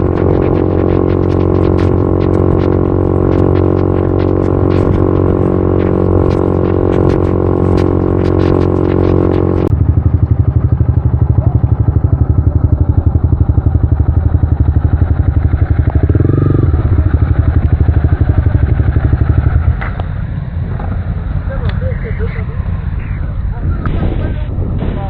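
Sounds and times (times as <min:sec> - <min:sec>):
motorcycle engine running: 0:00.0 - 0:24.8.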